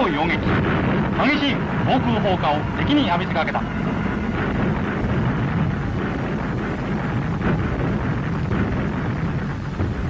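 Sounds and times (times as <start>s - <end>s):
low battle rumble: 0.0s - 10.0s.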